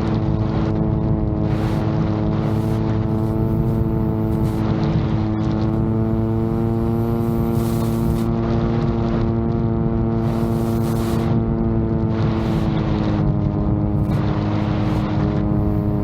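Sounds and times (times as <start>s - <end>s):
drone propellers humming: 0.0s - 16.0s
wind rumble on microphone: 0.0s - 16.0s.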